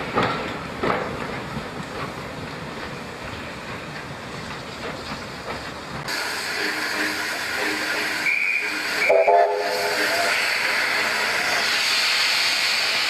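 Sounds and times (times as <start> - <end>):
steam hissing: 0.0 - 13.0
train rumbling: 0.0 - 13.0.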